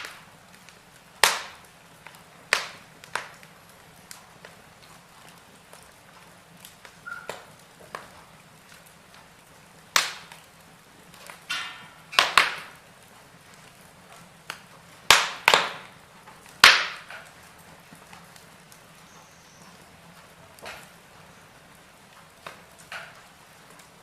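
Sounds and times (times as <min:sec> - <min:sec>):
faint steady hiss: 0:00.0 - 0:24.0
wood fire crackling: 0:00.0 - 0:24.0.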